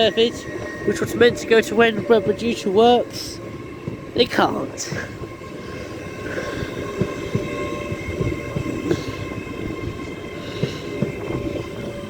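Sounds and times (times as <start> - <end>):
high whine: 0.0 - 12.0
train wheels rumbling on rails: 0.0 - 12.0.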